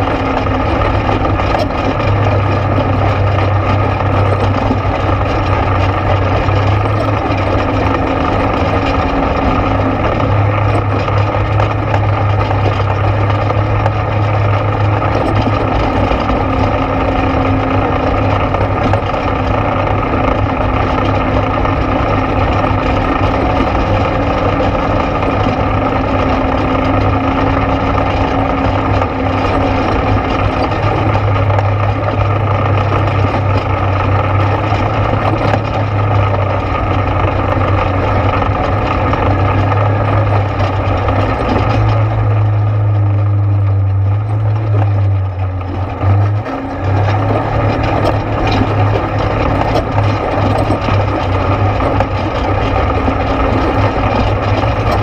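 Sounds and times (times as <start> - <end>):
atv engine droning: 0.0 - 55.0.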